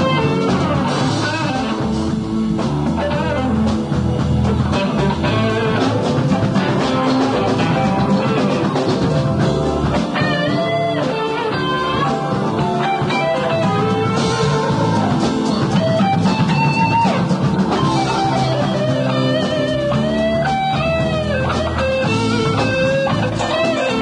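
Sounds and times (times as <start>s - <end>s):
drum kit: 0.0s - 24.0s
electric guitar: 0.0s - 24.0s
live rock band playing: 0.0s - 24.0s.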